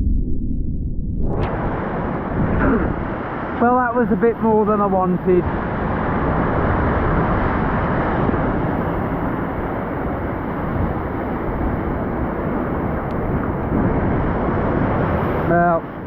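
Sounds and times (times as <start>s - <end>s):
wind buffeting microphone: 0.0s - 16.0s
sea surf: 1.3s - 16.0s.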